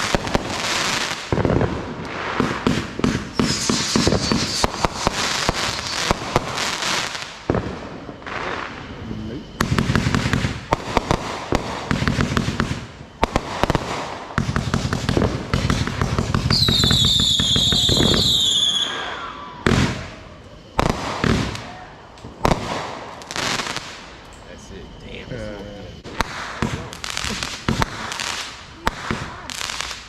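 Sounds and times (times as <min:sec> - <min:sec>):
firework bangs: 0:00.0 - 0:24.2, 0:26.0 - 0:30.0
firework whistle: 0:00.0 - 0:30.0
fireworks crackling: 0:00.0 - 0:30.0.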